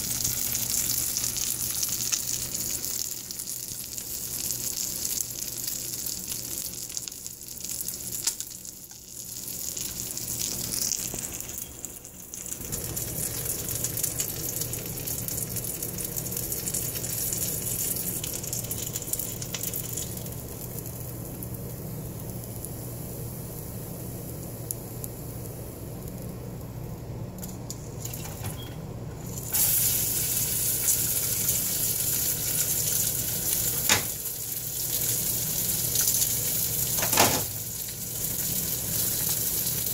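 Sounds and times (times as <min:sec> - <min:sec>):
bacon sizzling in a skillet: 0:00.0 - 0:26.4, 0:29.2 - 0:39.9.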